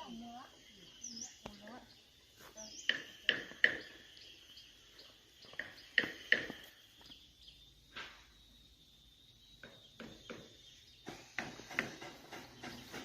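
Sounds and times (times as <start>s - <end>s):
birds chipping: 0.0s - 13.0s.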